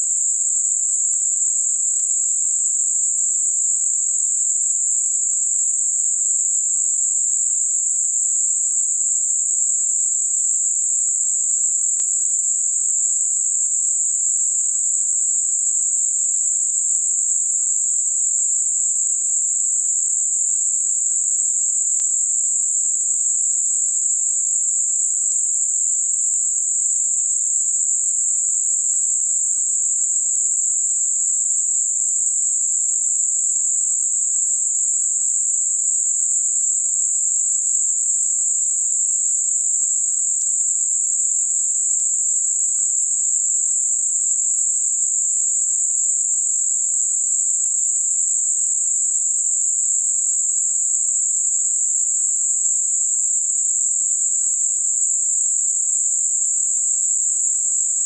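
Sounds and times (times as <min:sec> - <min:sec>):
steady high-pitched hiss: 0:00.0 - 0:58.0.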